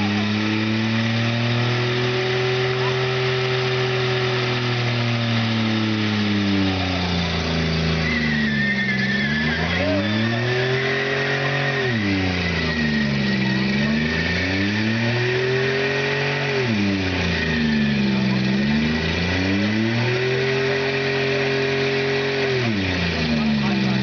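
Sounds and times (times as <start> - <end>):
car engine revving hard: 0.0 - 24.0.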